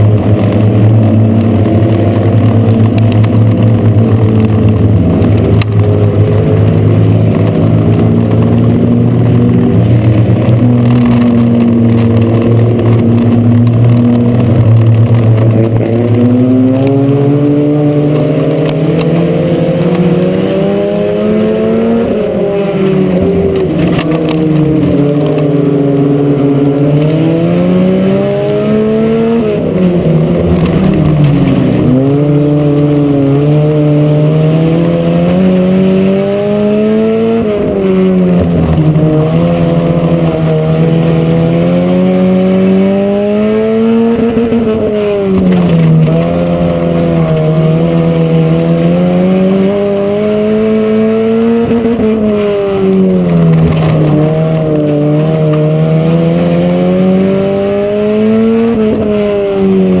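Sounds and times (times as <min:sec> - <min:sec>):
race car engine at speed: 0:00.0 - 1:00.0.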